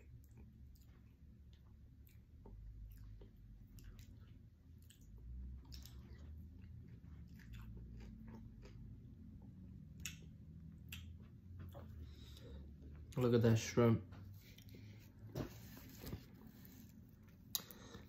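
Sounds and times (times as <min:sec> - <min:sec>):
faint chewing: 0:00.0 - 0:13.3, 0:14.2 - 0:18.0
low room hum: 0:00.0 - 0:18.0.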